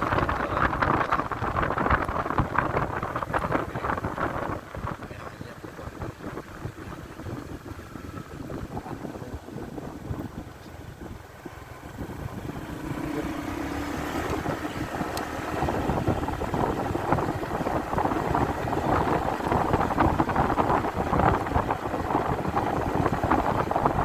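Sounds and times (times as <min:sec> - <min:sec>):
motorcycle engine: 0:00.0 - 0:24.0
wind buffeting microphone: 0:00.0 - 0:24.0.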